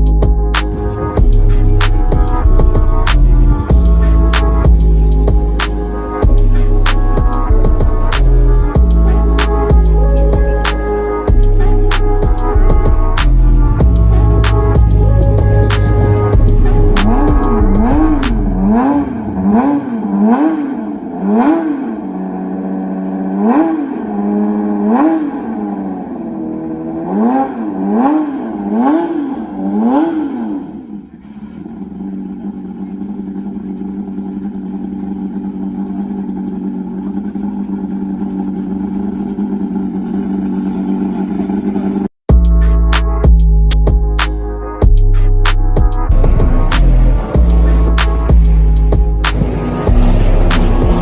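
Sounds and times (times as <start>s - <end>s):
race car engine revving: 0.0s - 43.2s, 46.0s - 51.0s.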